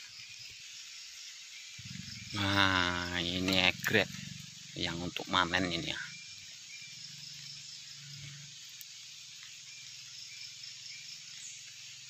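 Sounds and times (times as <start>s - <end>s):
faint bird chirps: 0.0s - 12.0s
insects chirring: 0.0s - 12.0s.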